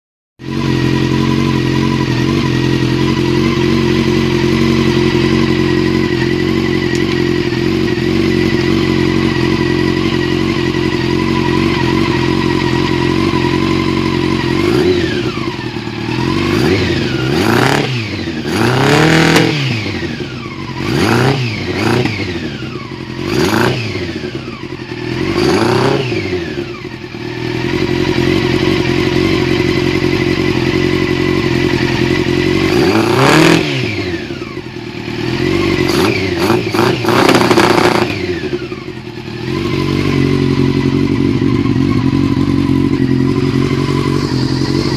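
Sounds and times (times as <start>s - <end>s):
motorcycle engine idling and revving: 0.4s - 44.9s.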